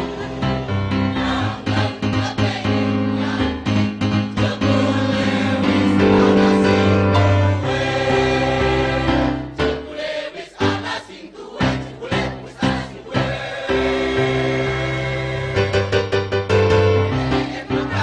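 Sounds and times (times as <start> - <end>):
choir singing chords: 0.0 - 18.0.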